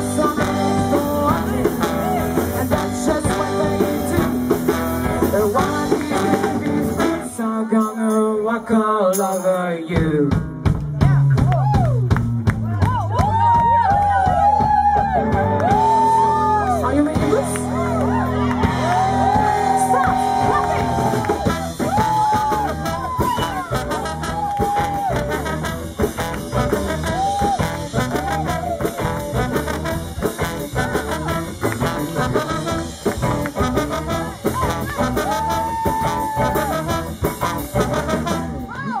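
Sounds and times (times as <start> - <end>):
live band playing: 0.0 - 39.0.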